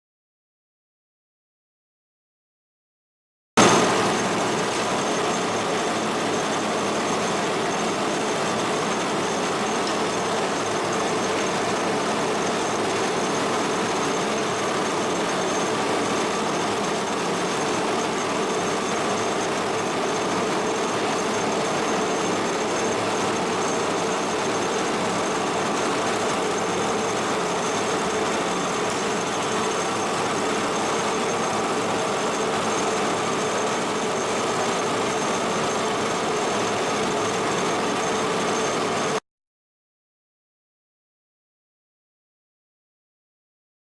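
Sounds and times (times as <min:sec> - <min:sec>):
milling machine humming and whining: 0:03.6 - 0:39.2.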